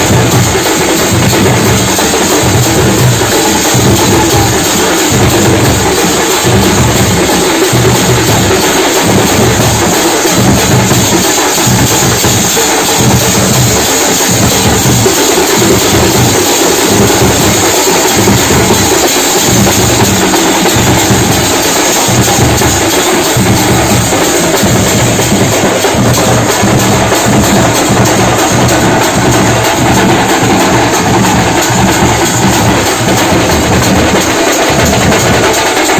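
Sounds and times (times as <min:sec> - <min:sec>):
drums beaten with sticks: 0:00.0 - 0:35.9.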